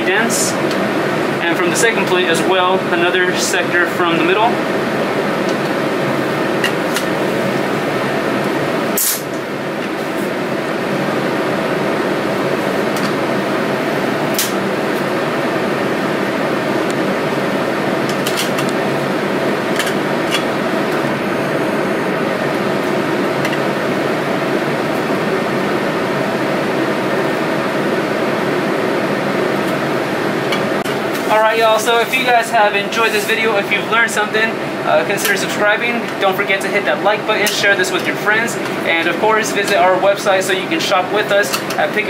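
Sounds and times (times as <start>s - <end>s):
laminar flow hood blower: 0.0s - 42.0s.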